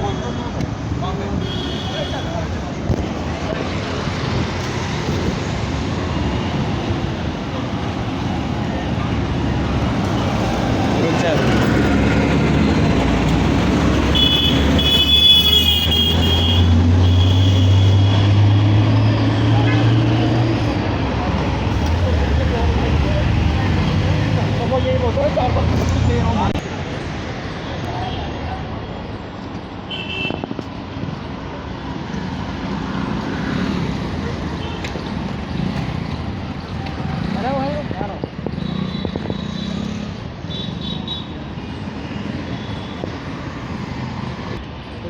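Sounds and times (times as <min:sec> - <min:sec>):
traffic engine rumble: 0:00.0 - 0:45.0.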